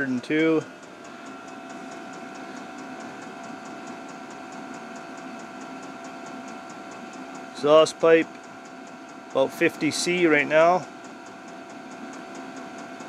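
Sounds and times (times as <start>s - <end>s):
blower fan whine: 0.0s - 13.0s
fuel pump ticking: 0.0s - 13.0s.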